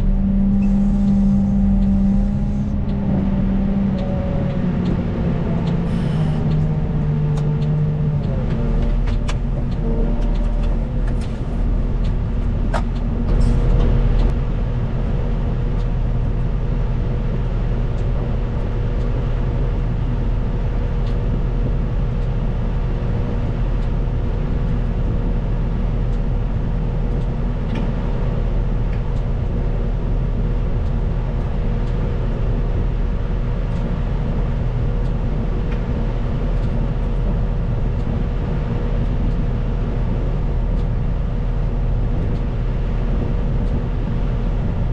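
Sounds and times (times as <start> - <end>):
diesel engine running: 0.0 - 44.9
thin steady whine: 0.0 - 44.9.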